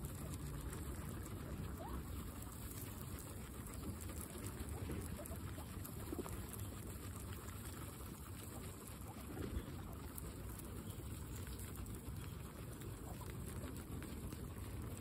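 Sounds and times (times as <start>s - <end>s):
guinea pigs chewing grass: 0.0s - 15.0s.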